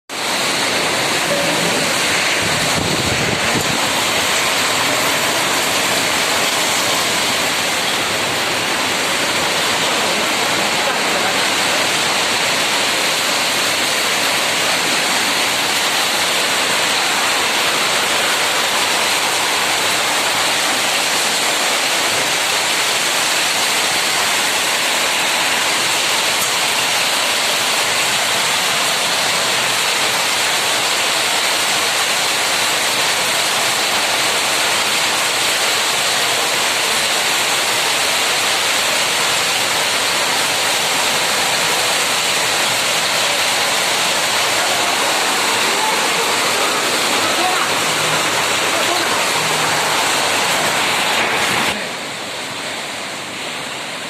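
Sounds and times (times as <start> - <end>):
heavy rain pouring: 0.1 - 54.0.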